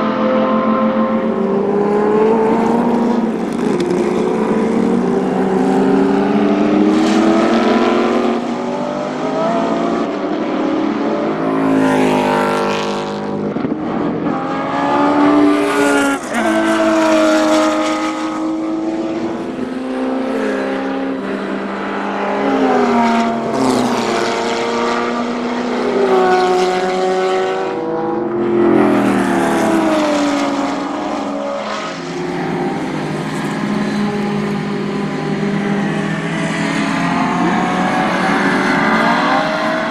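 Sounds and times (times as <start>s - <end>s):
racing engine at full throttle: 0.0s - 39.9s.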